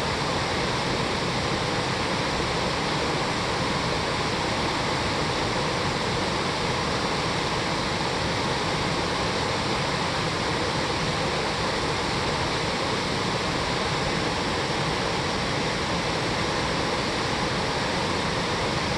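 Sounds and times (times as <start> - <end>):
stream and waterfall rushing: 0.0 - 18.9.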